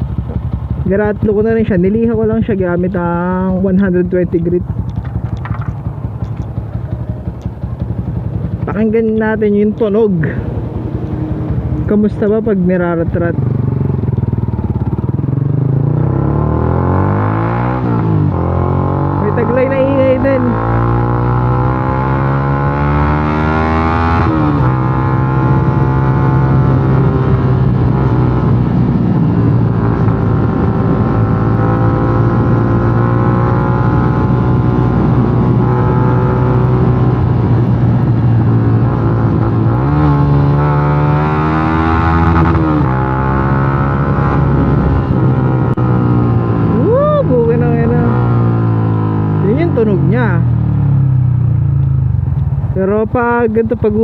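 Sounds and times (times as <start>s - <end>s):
loud motorcycle engine: 0.0s - 54.0s.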